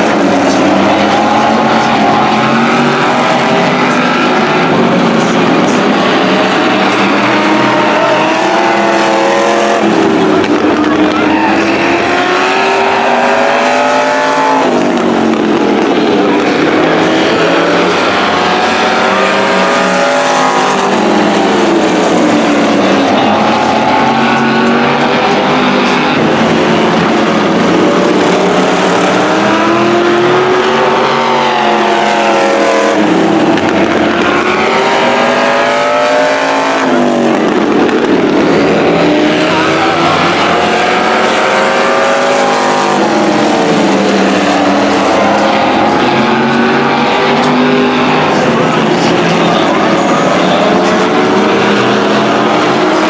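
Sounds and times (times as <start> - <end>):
racing car engines revving: 0.0 - 53.0.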